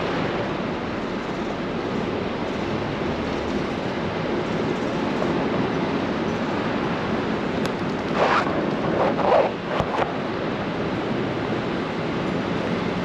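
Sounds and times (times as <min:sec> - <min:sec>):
city street traffic roar: 0:00.0 - 0:13.0.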